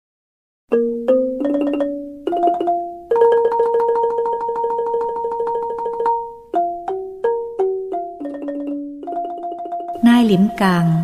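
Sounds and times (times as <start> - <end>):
instrumental music of ringing notes: 0.7 - 10.6.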